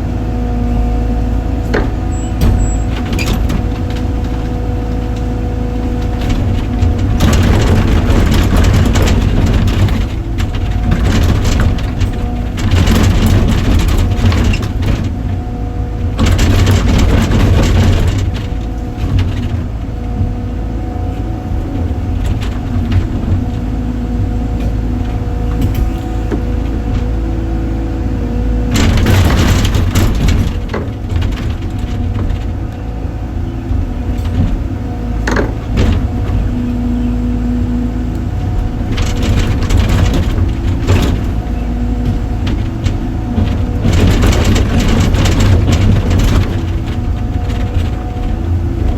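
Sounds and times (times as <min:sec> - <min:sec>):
heavy machinery engine drone: 0:00.0 - 0:48.9.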